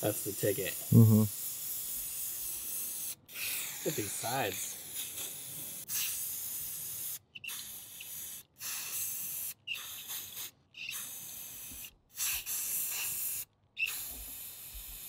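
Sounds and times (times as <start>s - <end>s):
spray paint can hissing: 0.1s - 15.0s.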